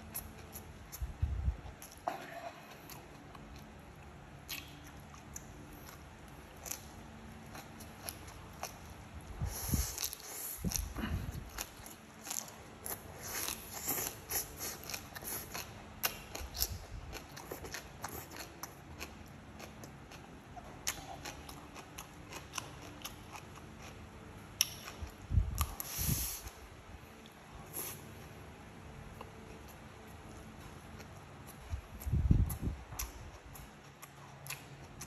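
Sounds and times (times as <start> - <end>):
person chewing: 0.0 - 1.1, 1.7 - 26.5, 27.2 - 28.4, 29.0 - 35.0.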